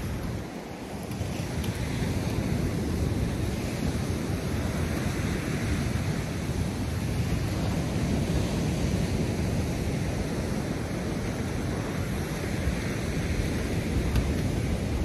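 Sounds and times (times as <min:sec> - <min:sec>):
surf breaking on beach: 0:00.0 - 0:15.0
wind on microphone: 0:00.0 - 0:15.0.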